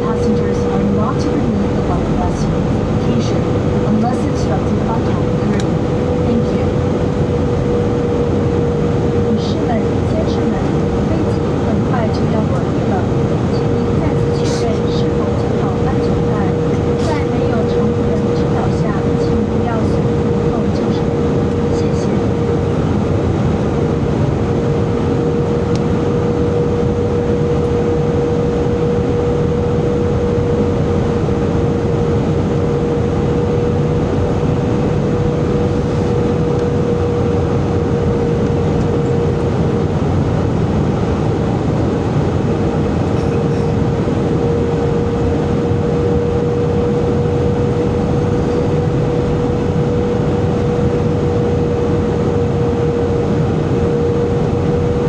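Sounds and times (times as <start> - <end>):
aircraft engine and airflow roar: 0.0 - 55.0
mid-pitched cabin hum: 0.0 - 55.0.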